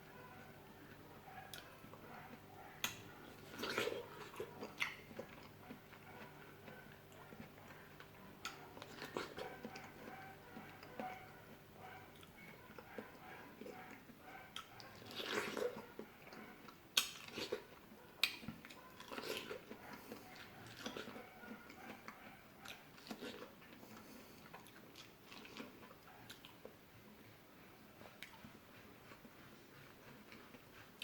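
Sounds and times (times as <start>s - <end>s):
person chewing fruit: 0.2s - 31.0s.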